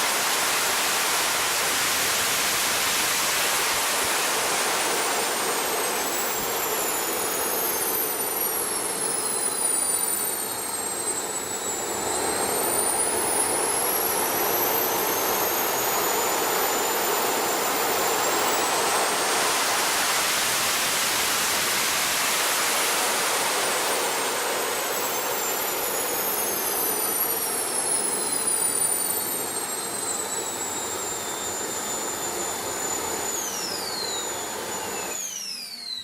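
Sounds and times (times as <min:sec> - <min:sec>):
propeller engines whining: 0:00.0 - 0:36.0.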